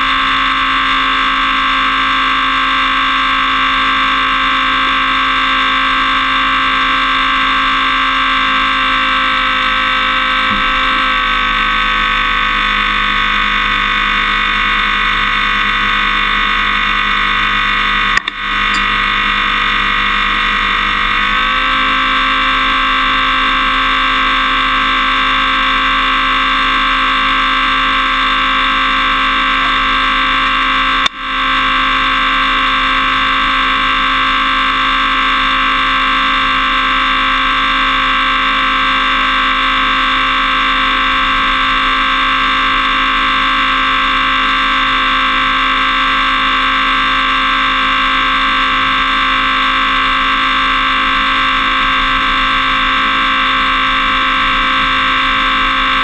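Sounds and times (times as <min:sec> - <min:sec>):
pickup truck engine hum: 0:00.0 - 0:39.5, 0:40.1 - 0:56.0.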